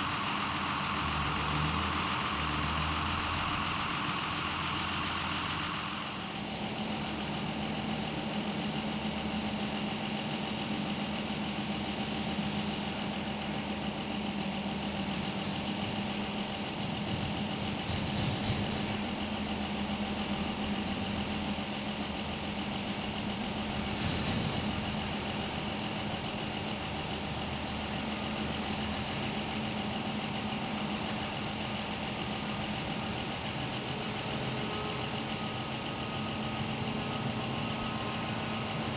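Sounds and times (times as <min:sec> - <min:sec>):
diesel farm machinery droning: 0:00.0 - 0:38.9.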